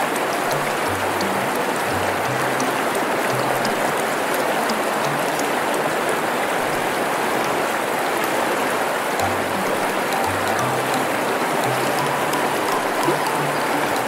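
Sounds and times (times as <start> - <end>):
faint background music: 0.0 - 14.0
river water rushing: 0.0 - 14.0.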